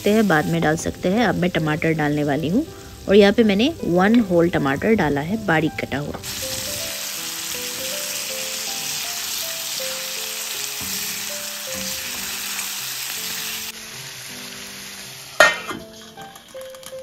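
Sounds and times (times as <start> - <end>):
chicken sizzling in a pan: 0.0 - 4.4, 5.9 - 17.0.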